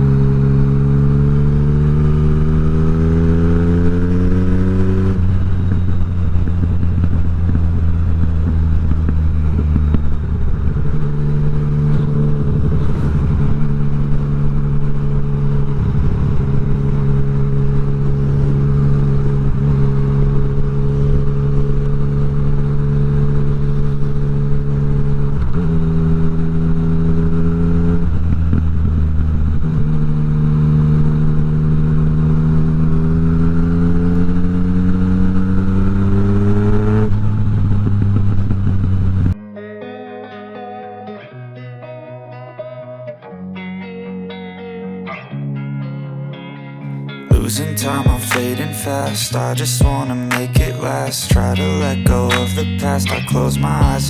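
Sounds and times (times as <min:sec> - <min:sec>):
motorcycle engine running: 0:00.0 - 0:39.4, 0:47.3 - 0:54.0.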